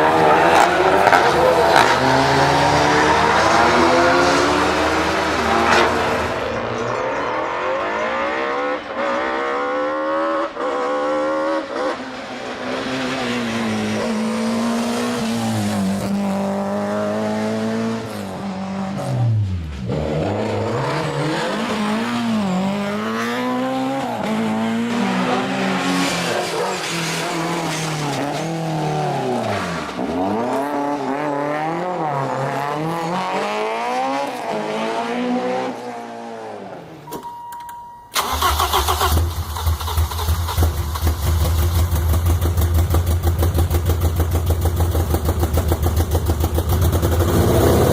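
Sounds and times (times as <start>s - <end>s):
car engine revving: 0.0s - 37.0s, 38.2s - 47.9s.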